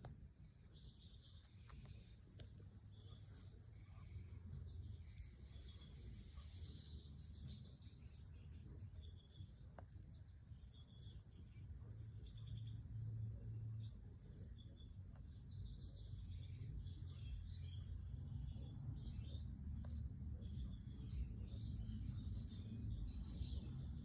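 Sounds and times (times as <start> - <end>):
finches chirping and twittering: 0.0 - 24.0
steady low hum: 0.0 - 24.0.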